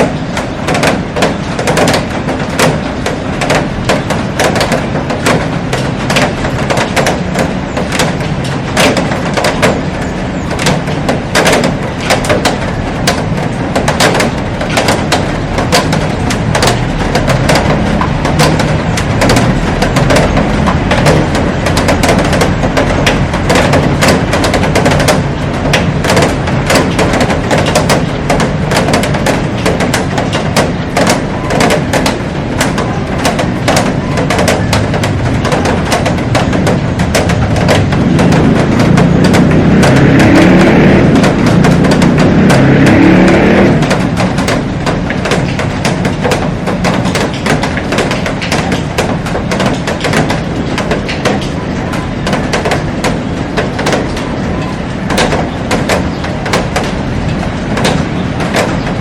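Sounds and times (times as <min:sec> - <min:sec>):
heavy rain on a glass roof: 0:00.0 - 0:59.0.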